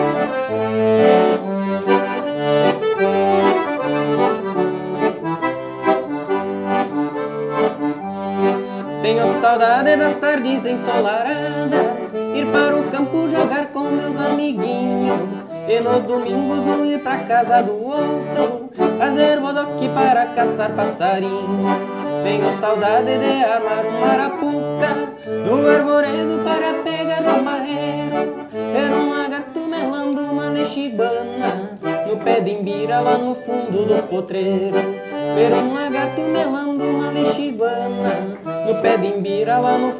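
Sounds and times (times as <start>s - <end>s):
solo accordion melody: 0.0s - 39.9s.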